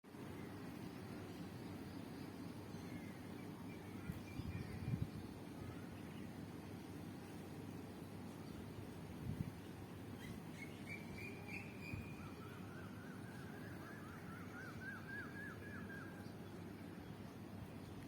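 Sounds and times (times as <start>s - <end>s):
low background noise: 0.1s - 18.0s.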